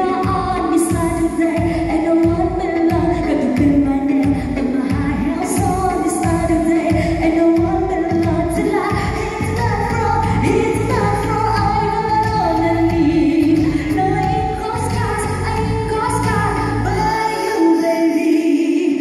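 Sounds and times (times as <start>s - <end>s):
backing music: 0.0s - 17.2s
woman singing pop vocal: 0.0s - 19.0s.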